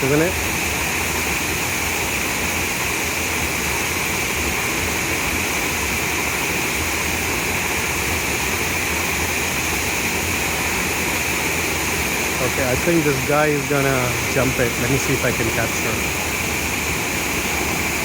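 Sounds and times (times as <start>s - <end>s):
waterfall pouring into pool: 0.0s - 18.0s.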